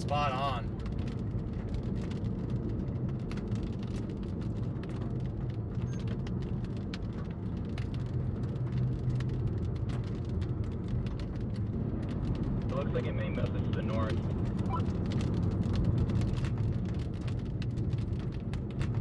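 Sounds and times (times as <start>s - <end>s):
raindrops ticking on windshield: 0.0s - 19.0s
vehicle low rumble: 0.0s - 19.0s.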